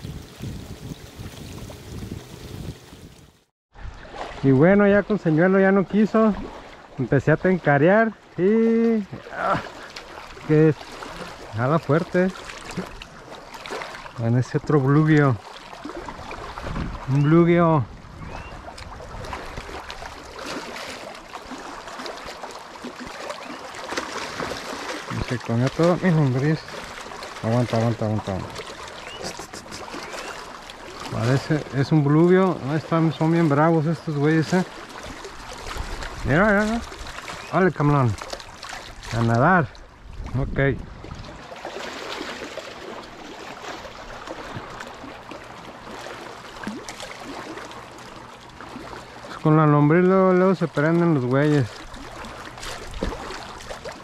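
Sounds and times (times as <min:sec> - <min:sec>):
waves lapping on rocky shore: 0:03.8 - 0:39.6, 0:41.3 - 0:54.0.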